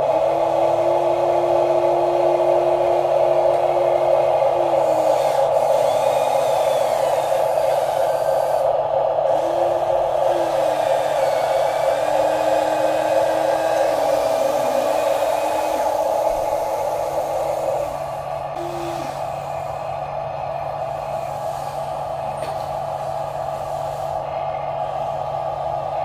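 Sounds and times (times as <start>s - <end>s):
whine shifting in pitch: 0.0s - 20.8s.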